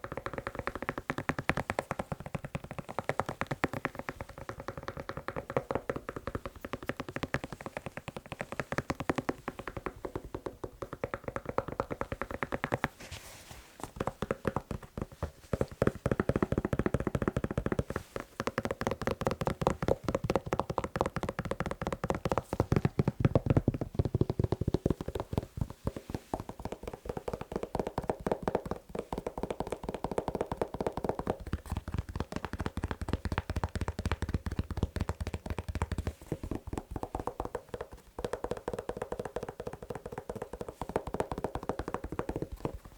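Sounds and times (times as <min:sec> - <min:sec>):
fast tapping on a shoe: 0:00.0 - 0:42.9.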